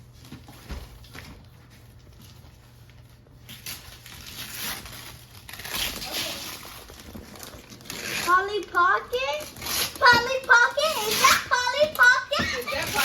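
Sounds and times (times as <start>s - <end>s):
wrapping paper rustling and tearing: 1.9s - 13.0s.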